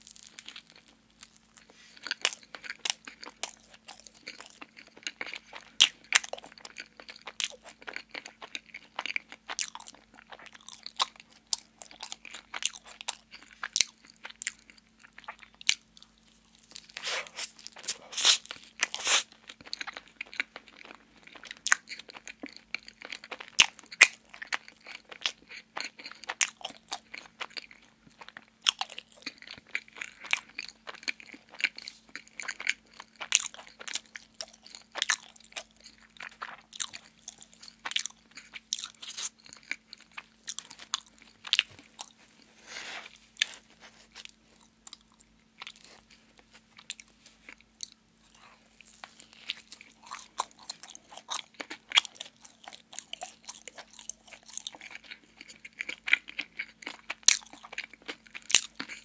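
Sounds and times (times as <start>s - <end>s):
faint steady hum: 0.0s - 59.0s
chewing wet mouth sounds: 0.1s - 59.0s.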